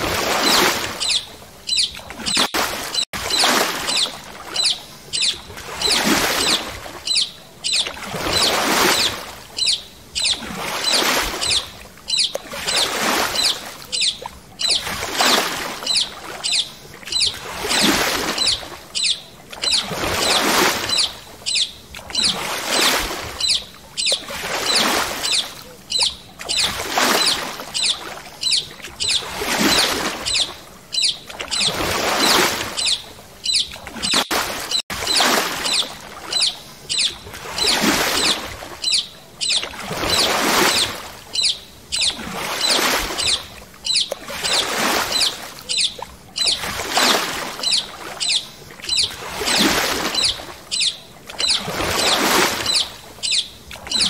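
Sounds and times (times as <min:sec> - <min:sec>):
paddle strokes in water: 0:00.0 - 0:54.0.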